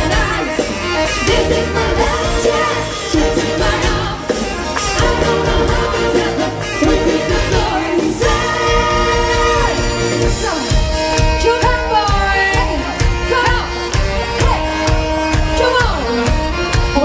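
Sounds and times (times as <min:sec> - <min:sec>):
brass band playing: 0:00.0 - 0:17.0
drum beat: 0:01.3 - 0:17.0.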